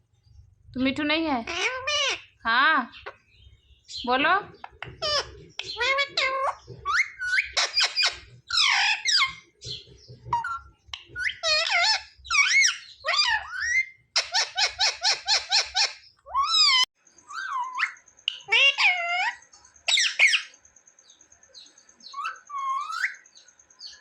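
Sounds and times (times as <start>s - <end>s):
parakeet shrill squeaky calls: 1.5s - 3.2s, 3.9s - 20.6s, 22.1s - 23.2s.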